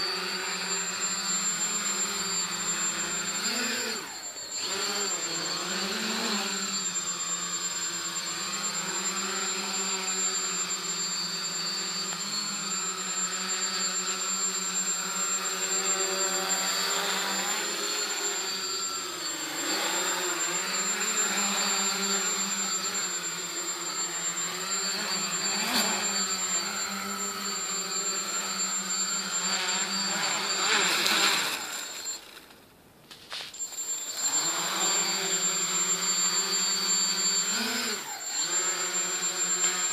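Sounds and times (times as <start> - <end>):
multicopter motors humming: 0.0 - 32.7, 33.5 - 39.9.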